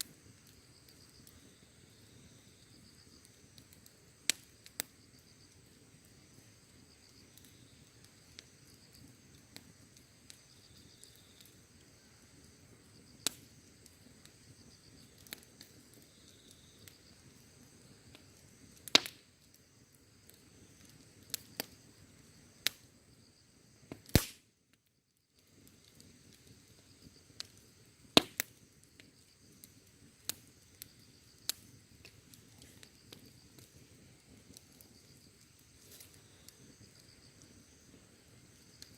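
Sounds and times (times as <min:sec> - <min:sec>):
insect chirping: 0:00.0 - 0:24.0, 0:24.7 - 0:38.9
campfire crackling and popping: 0:00.0 - 0:38.9.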